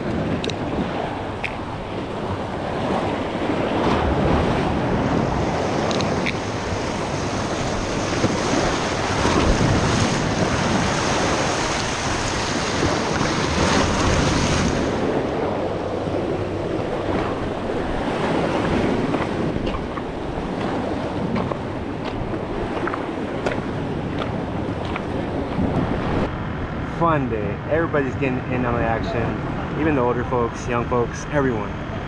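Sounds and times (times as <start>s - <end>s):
surf splashing against boulders: 0.0s - 26.3s
wind buffeting microphone: 0.0s - 32.0s.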